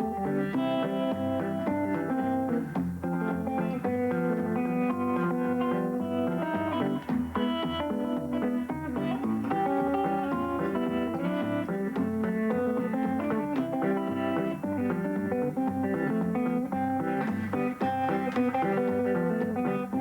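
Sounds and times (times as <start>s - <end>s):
solo fingerpicked guitar: 0.0s - 20.0s.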